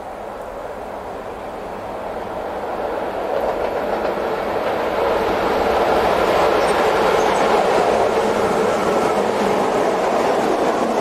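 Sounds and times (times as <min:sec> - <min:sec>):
train wheels rolling on track: 0:00.0 - 0:11.0.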